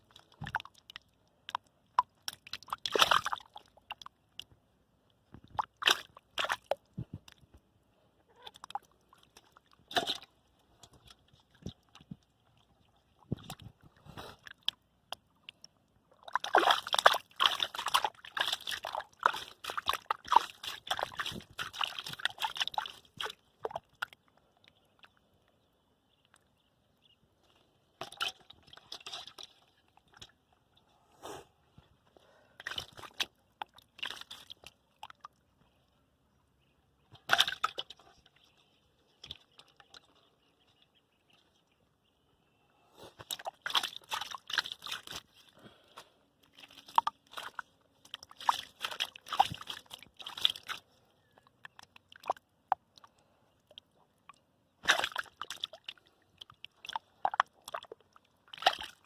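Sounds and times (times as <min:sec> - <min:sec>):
sloshing through mud and water: 0:00.0 - 0:04.5, 0:05.4 - 0:07.5, 0:08.4 - 0:25.3, 0:27.5 - 0:30.5, 0:32.5 - 0:35.8, 0:37.2 - 0:40.3, 0:43.1 - 0:54.0, 0:54.8 - 0:59.0.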